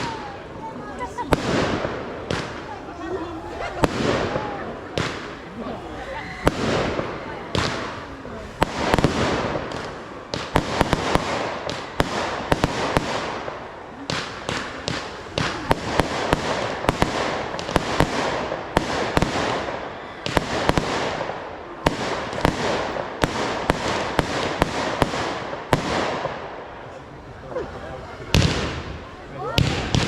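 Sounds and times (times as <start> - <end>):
fireworks shells exploding: 0.0 - 27.0, 28.0 - 30.0
fireworks crackling: 0.0 - 30.0.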